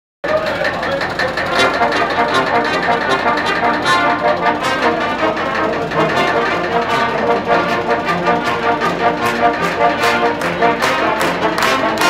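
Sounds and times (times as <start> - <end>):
brass ensemble playing: 1.5 - 12.0.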